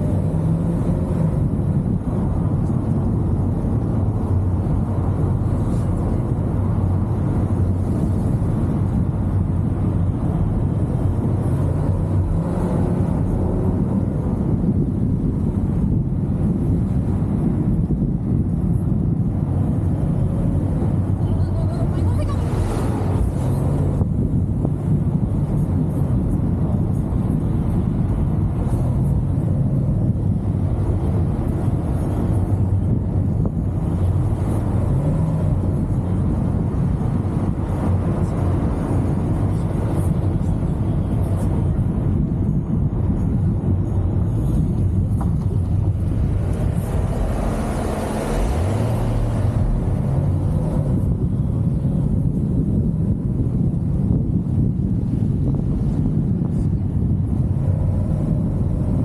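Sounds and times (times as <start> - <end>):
car engine and tyres driving: 0.0 - 59.0
road rumble: 0.0 - 59.0.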